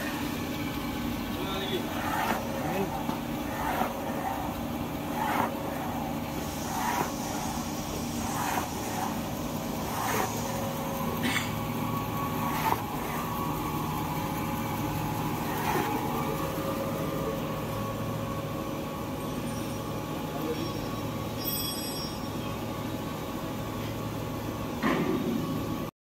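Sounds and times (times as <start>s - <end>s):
machinery humming: 0.0s - 25.9s.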